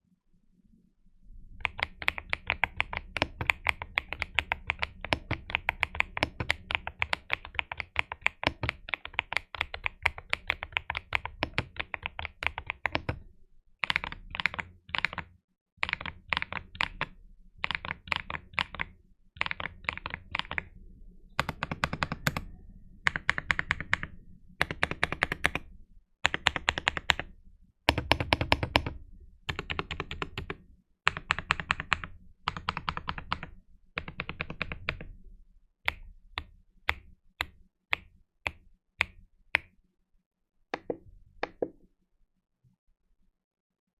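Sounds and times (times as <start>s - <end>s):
mechanical keyboard typing: 1.6s - 13.2s, 13.8s - 20.8s, 21.4s - 22.5s, 23.1s - 27.3s, 27.9s - 35.2s, 35.9s - 39.7s, 40.8s - 41.8s.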